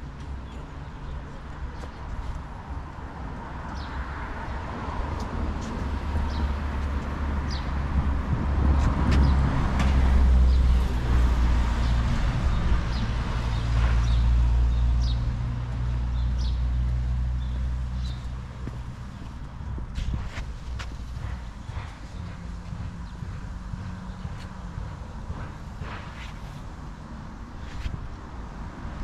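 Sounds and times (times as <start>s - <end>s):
vehicle engine rumble: 0.0s - 29.0s.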